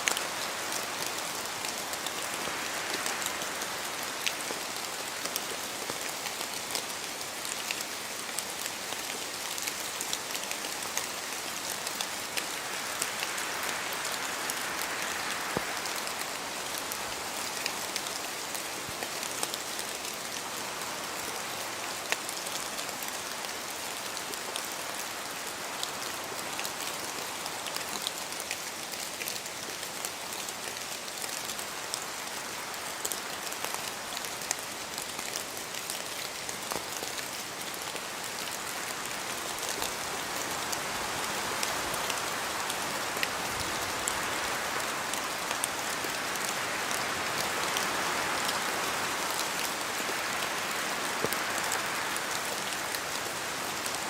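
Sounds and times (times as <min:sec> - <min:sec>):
gentle wind: 0:00.0 - 0:54.0
steady rain in forest: 0:00.0 - 0:54.0.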